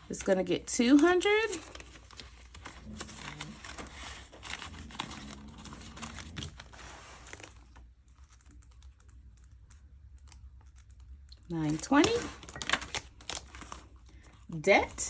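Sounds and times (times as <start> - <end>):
paper bills rustling: 0.0 - 15.0.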